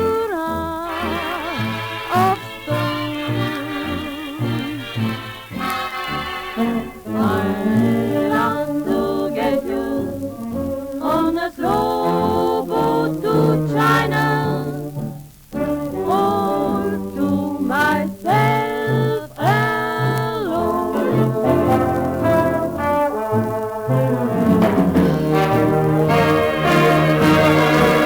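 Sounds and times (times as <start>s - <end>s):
vocal group singing: 0.0s - 23.0s, 23.9s - 28.0s
dance orchestra playing swing: 0.0s - 28.0s.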